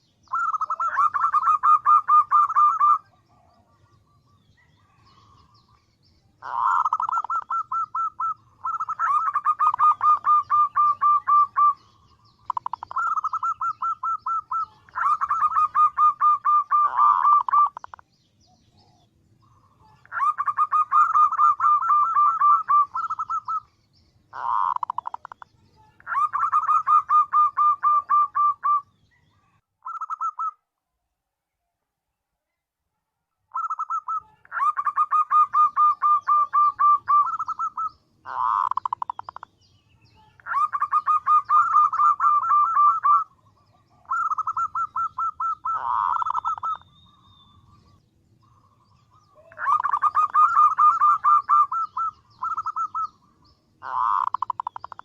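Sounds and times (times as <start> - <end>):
dove cooing: 0.2 - 5.7, 6.4 - 18.0, 18.8 - 23.7, 24.3 - 30.6, 33.5 - 39.5, 40.2 - 55.0.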